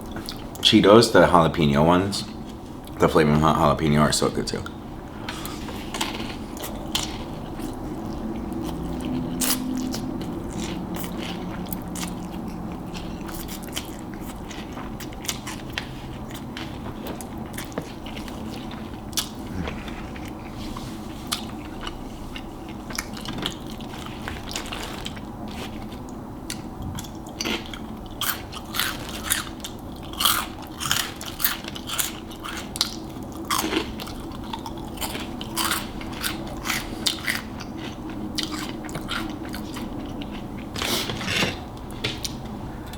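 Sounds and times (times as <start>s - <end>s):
crunchy chewing: 5.3s - 42.9s.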